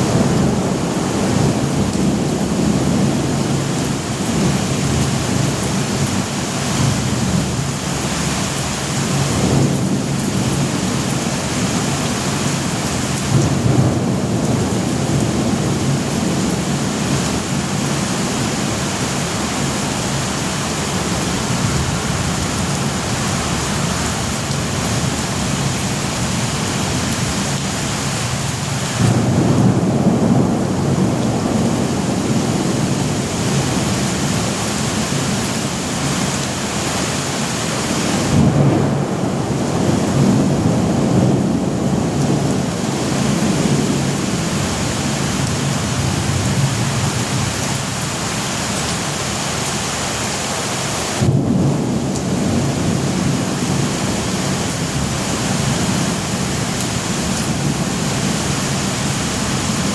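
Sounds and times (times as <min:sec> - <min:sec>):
rolling thunder: 0:00.0 - 0:08.3, 0:08.9 - 0:48.1, 0:51.2 - 0:59.9
heavy rain: 0:00.0 - 0:59.9.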